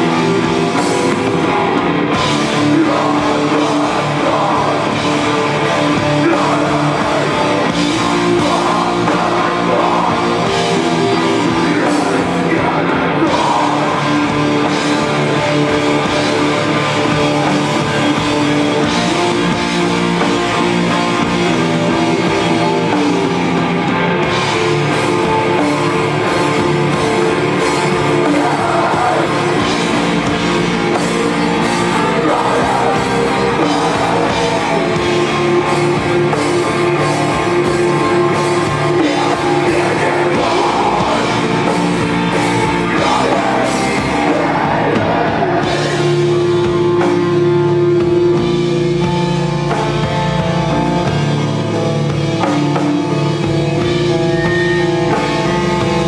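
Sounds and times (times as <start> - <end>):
electric guitar chords: 0.0 - 56.0
live rock band playing: 0.0 - 56.0.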